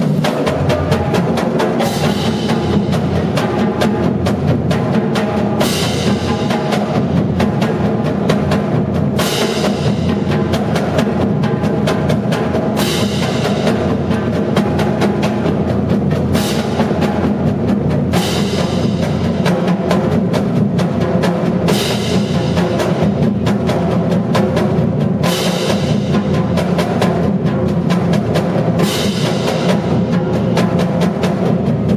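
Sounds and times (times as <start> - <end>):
marching drumline playing: 0.0 - 31.9.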